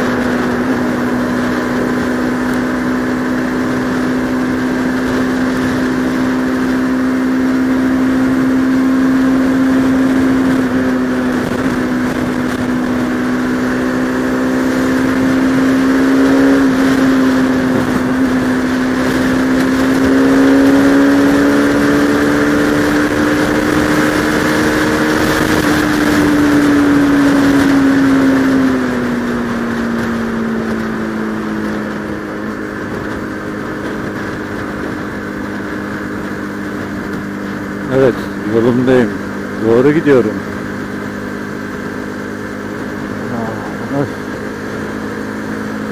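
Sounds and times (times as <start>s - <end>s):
motorcycle engine cruising: 0.0s - 45.9s.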